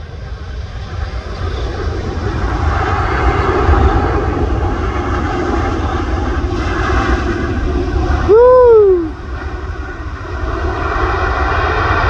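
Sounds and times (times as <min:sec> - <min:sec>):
jet engines passing close: 0:00.0 - 0:12.0.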